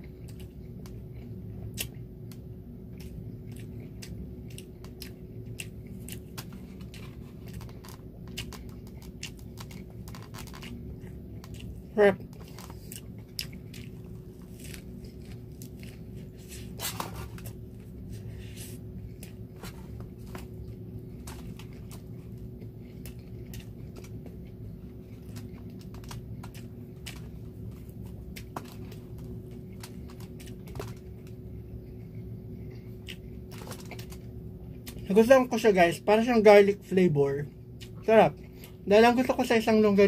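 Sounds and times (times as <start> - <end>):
person chewing food: 0.0 - 35.1, 37.5 - 38.8
steady low hum: 0.0 - 40.0.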